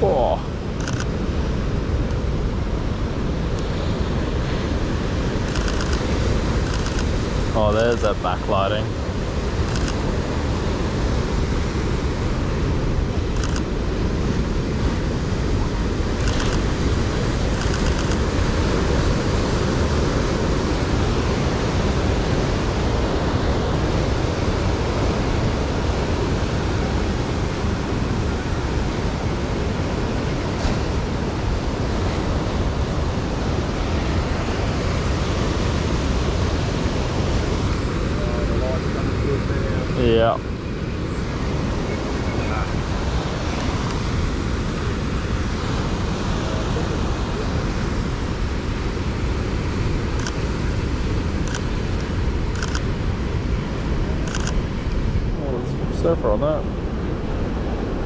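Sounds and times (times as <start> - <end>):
surf breaking on rocks: 2.9 - 58.0.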